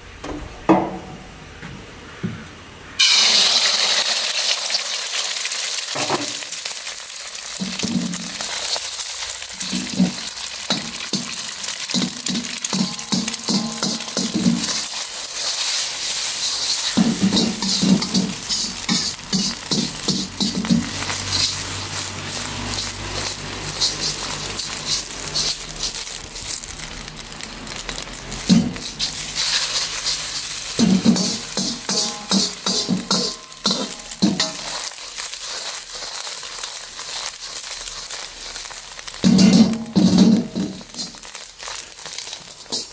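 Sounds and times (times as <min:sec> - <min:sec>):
eggs sizzling in hot oil: 0:03.0 - 0:42.9
ladle scraping a wok: 0:07.6 - 0:42.9.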